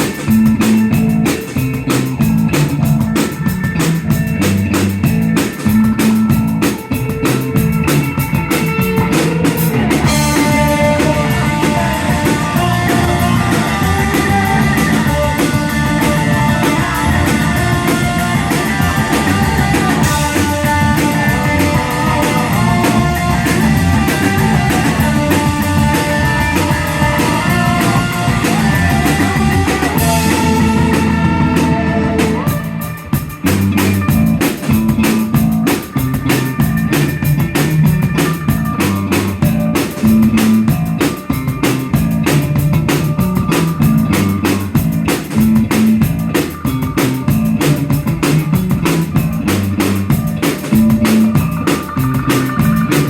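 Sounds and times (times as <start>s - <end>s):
drum kit: 0.0s - 53.0s
electric guitar: 0.0s - 53.0s.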